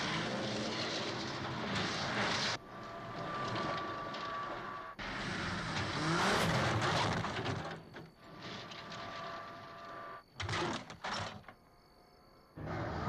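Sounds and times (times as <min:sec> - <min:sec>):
car crashing into ground: 0:00.0 - 0:11.1
car scraping slide: 0:00.0 - 0:11.3.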